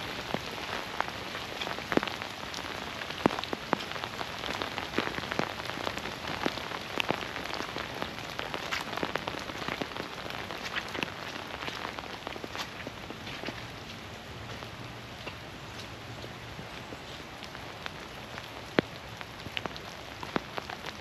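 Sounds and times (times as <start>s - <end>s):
raindrops ticking close by: 0.0s - 21.0s
steady rain falling: 0.0s - 21.0s.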